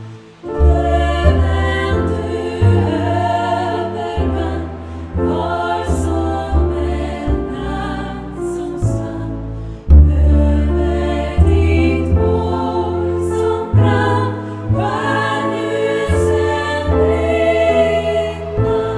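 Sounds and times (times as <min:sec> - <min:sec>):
piano accompaniment: 0:00.0 - 0:18.9
female group singing in harmony: 0:00.3 - 0:18.9.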